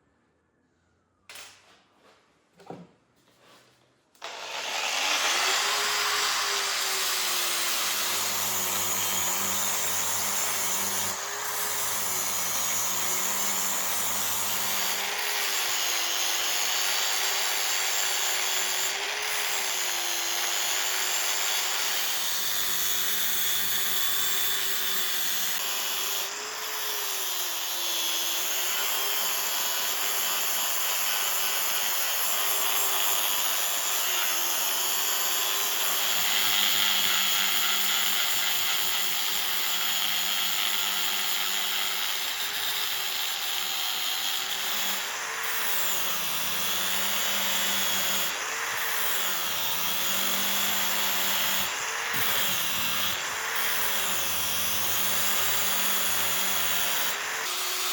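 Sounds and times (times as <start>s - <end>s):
power tool motor running: 4.2s - 57.9s.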